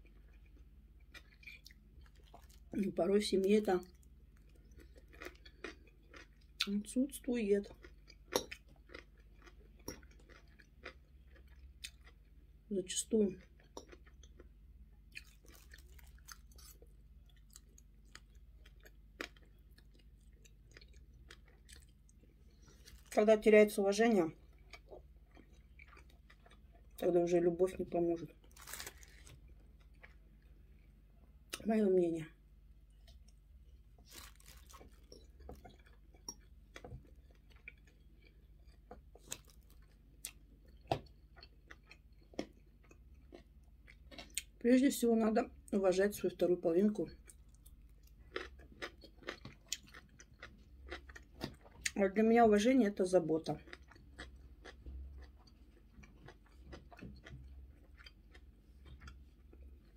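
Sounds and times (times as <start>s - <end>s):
person chewing food: 0.0s - 2.8s, 3.8s - 6.7s, 7.6s - 12.7s, 13.4s - 23.2s, 24.3s - 27.0s, 28.3s - 31.6s, 32.8s - 44.6s, 47.1s - 52.0s, 53.6s - 59.9s.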